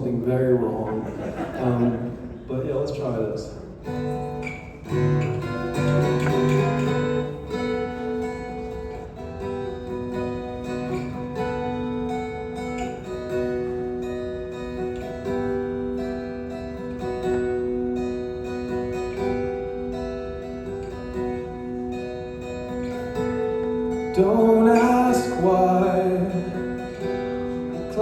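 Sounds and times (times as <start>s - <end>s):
acoustic guitar strumming chords: 3.7s - 28.0s.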